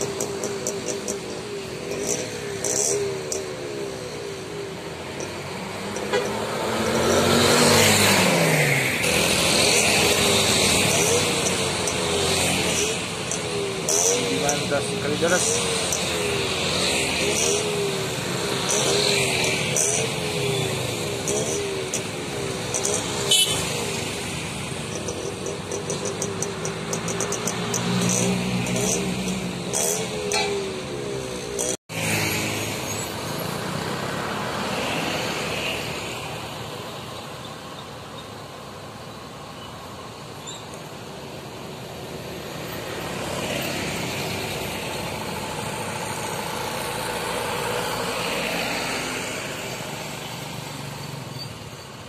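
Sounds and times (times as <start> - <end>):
motorcycles and cars passing: 0.0 - 52.0
tyre and road noise: 0.0 - 52.0.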